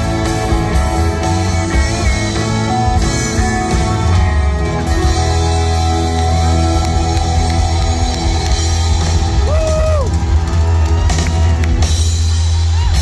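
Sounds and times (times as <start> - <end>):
country-rock band playing live: 0.0 - 13.0.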